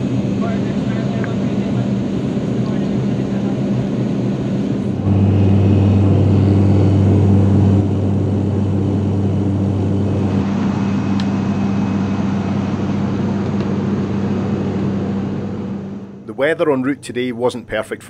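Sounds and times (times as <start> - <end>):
turboprop cabin drone: 0.0 - 17.8.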